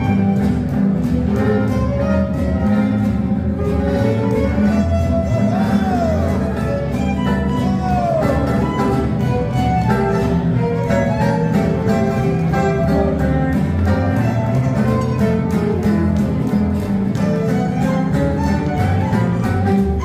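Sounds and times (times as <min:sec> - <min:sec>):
strummed rhythm guitars: 0:00.0 - 0:20.0
upright bass: 0:00.0 - 0:20.0
violin melody: 0:00.0 - 0:20.0.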